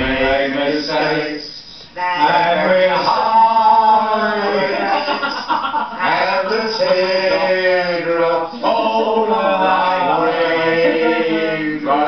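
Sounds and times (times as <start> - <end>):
men singing unaccompanied: 0.0 - 1.6, 2.2 - 5.2, 6.0 - 12.0.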